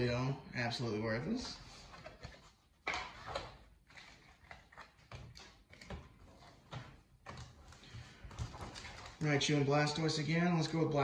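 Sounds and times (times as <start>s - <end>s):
cards rustling: 1.3s - 11.0s.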